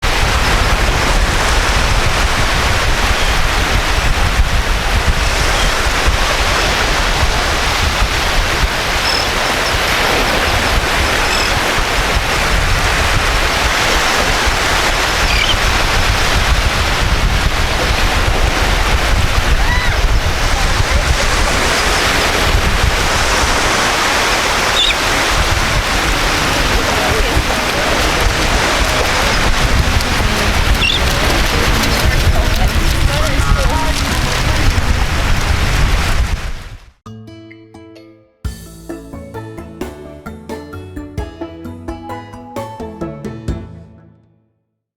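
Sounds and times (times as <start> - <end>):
surf washing on beach: 0.0 - 36.8
wind buffeting microphone: 0.0 - 36.9.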